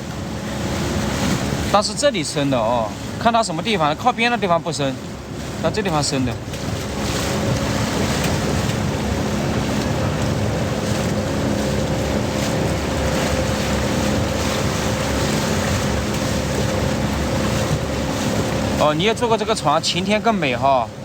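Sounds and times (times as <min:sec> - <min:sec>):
boat motor running: 0:00.0 - 0:21.0
wind and water noise: 0:00.0 - 0:21.0.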